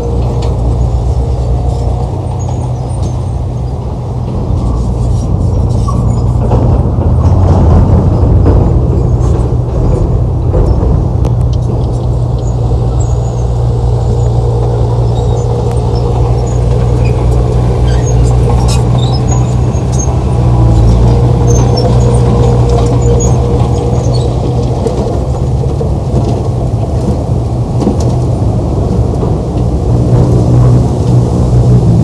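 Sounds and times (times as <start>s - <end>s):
bulldozer diesel engine rumbling: 0.0s - 32.0s.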